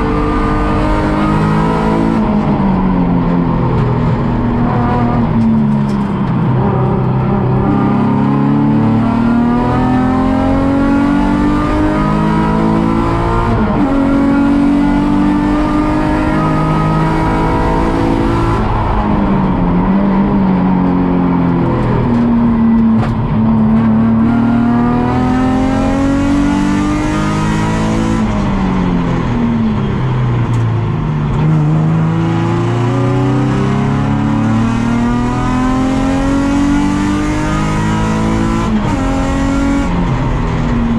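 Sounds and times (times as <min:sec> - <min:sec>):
car engine revving at full throttle: 0:00.0 - 0:40.9.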